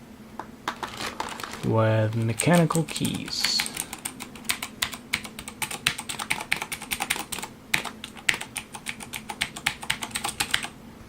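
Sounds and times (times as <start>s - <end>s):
mechanical keyboard typing: 1.6s - 10.7s.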